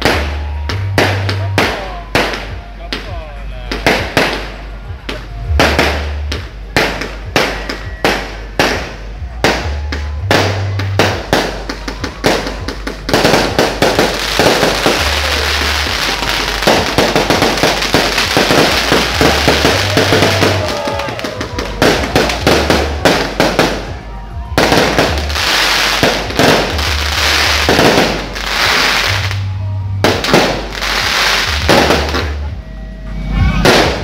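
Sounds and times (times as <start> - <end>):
fireworks bangs and crackling: 0.0 - 32.6, 33.6 - 34.0
low bass music: 0.0 - 34.0.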